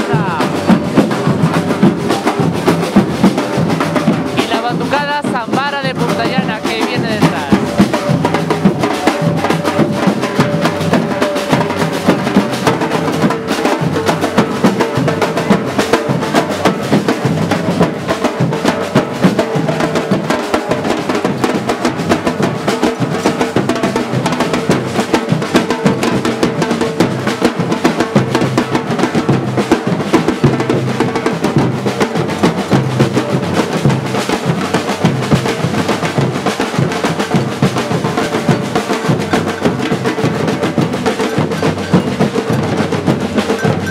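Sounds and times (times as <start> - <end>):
samba percussion drumming: 0.0 - 43.9.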